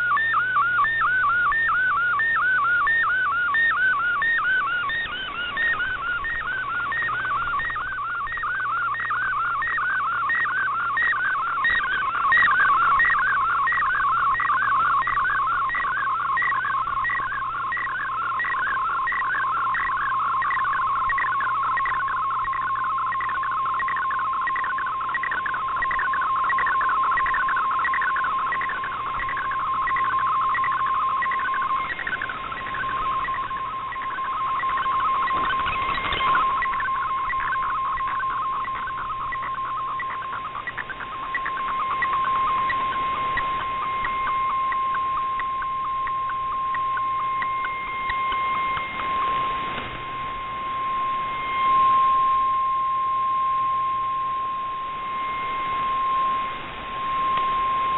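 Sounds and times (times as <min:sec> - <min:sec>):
warbling data tone: 0:00.0 - 0:57.9.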